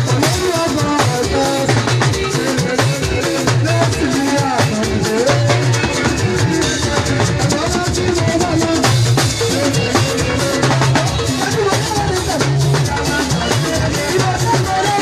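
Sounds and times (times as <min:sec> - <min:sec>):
bass and keyboard lines: 0:00.0 - 0:15.0
drum kit beat: 0:00.0 - 0:15.0.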